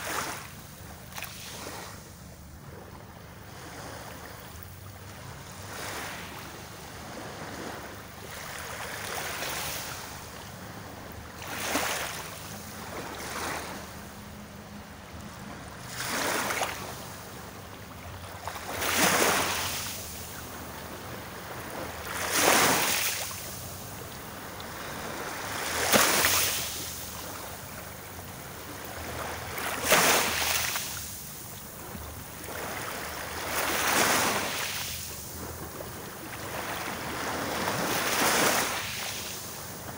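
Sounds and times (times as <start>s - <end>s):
small waves breaking on shore: 0.0s - 39.9s.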